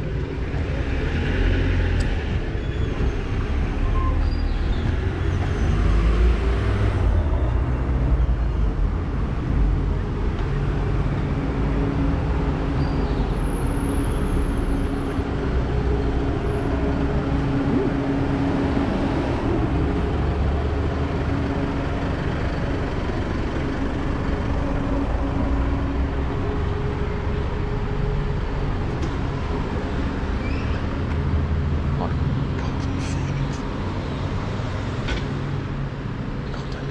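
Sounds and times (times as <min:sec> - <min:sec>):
vehicle engines running: 0:00.0 - 0:36.9.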